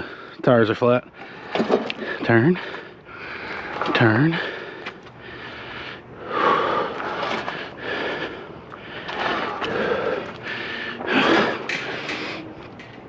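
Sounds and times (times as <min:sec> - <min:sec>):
man breathing heavily: 0:00.0 - 0:00.4, 0:01.0 - 0:13.0.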